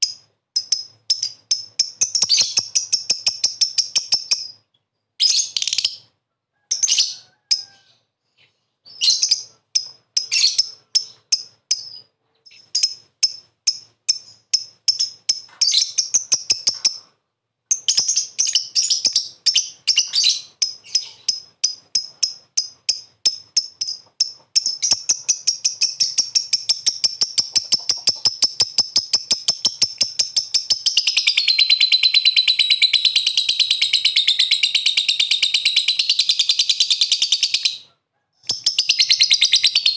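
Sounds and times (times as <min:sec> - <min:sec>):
lovebird chirping and trilling: 0:00.0 - 0:08.0, 0:08.8 - 0:17.1, 0:17.7 - 0:39.9.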